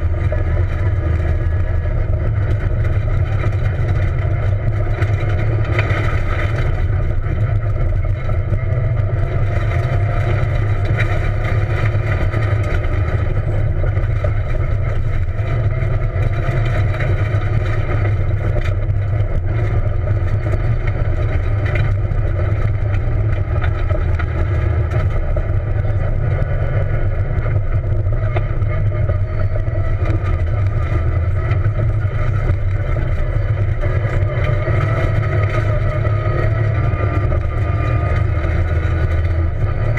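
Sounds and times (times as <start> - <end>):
car engine under load: 0.0 - 39.9
low road rumble: 0.0 - 39.9.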